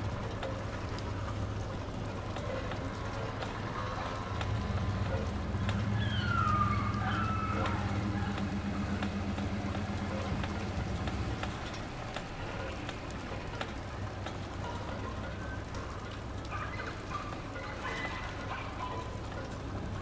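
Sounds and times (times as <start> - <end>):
distant thunder rumble: 0.0 - 20.0
high gliding calls: 2.5 - 19.8.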